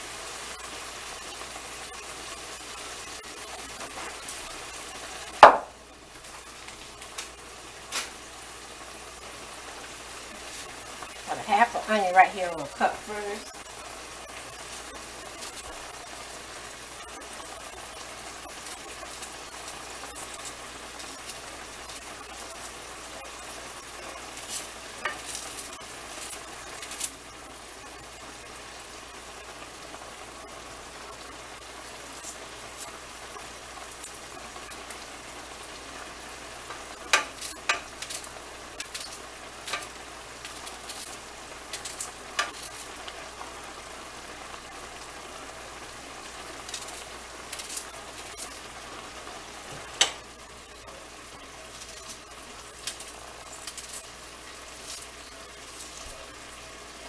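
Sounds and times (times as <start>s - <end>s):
meat and peppers sizzling: 0.0s - 57.0s.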